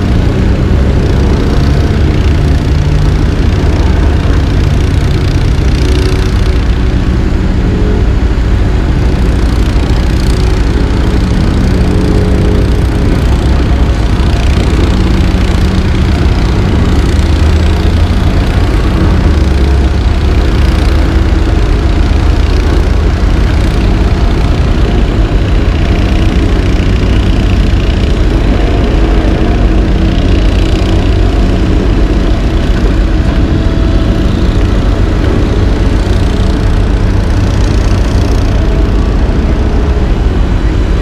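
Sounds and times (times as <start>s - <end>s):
heavy diesel engines droning: 0.0s - 41.0s.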